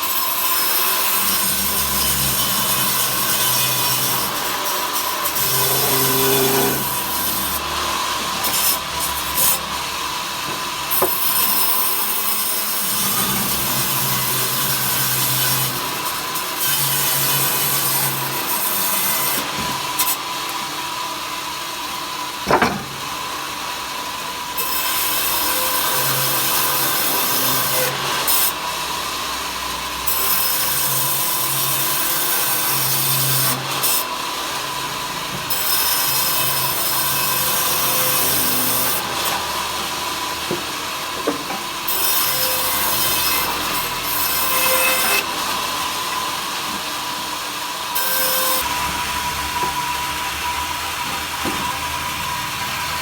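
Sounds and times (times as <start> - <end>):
saw rasping through wood: 0.0 - 53.0.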